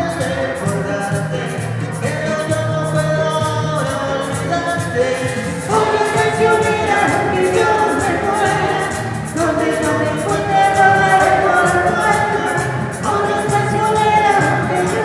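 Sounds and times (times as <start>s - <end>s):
keyboard accompaniment: 0.0s - 15.0s
man and woman singing: 0.0s - 15.0s
percussion beat: 0.0s - 15.0s.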